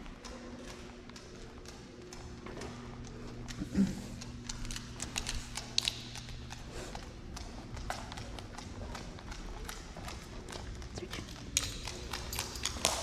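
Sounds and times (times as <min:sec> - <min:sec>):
footsteps and light taps: 0:00.0 - 0:13.0
steady low hum: 0:00.0 - 0:13.0.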